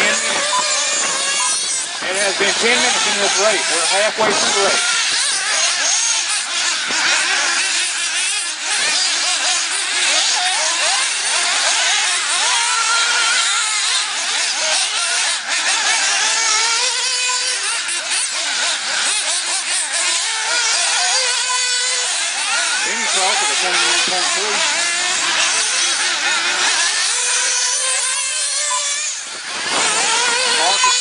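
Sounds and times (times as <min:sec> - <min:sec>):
rc buggy engines buzzing: 0:00.0 - 0:31.0.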